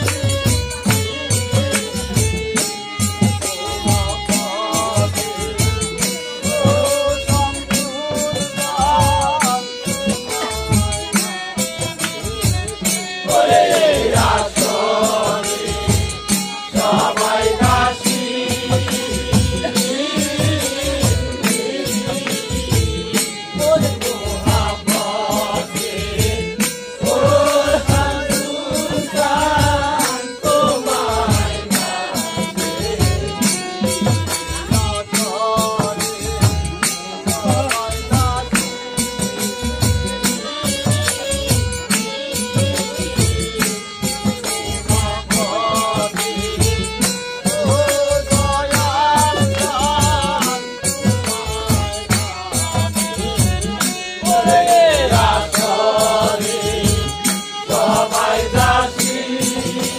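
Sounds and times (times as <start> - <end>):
rattling percussion: 0.0 - 59.9
steady drum beat: 0.0 - 59.9.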